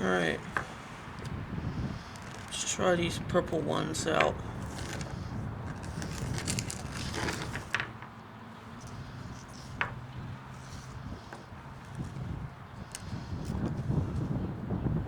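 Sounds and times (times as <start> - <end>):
rustles: 0.0 - 14.4
wind rumbling on microphone: 0.0 - 15.0.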